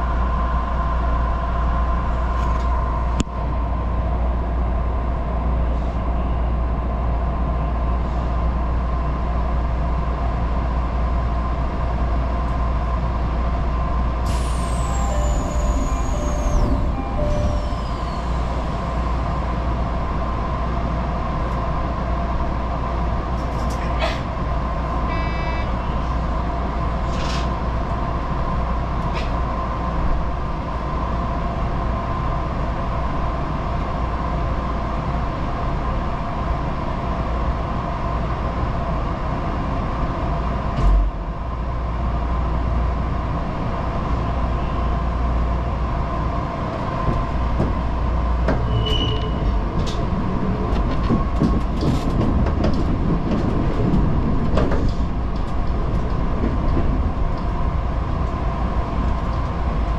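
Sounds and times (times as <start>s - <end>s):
electric train humming drone: 0.0s - 59.9s.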